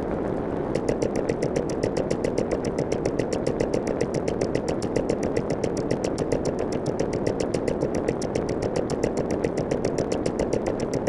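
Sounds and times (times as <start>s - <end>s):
small engine clattering: 0.7s - 11.0s.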